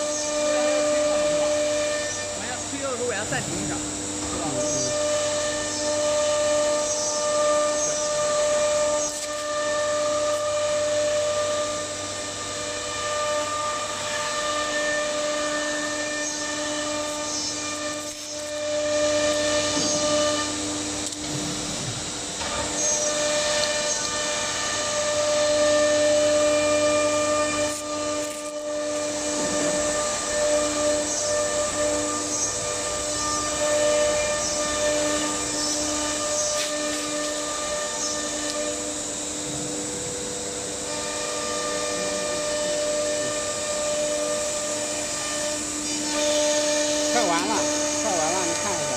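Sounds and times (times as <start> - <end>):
router spindle high-pitched whine: 0.0 - 48.9.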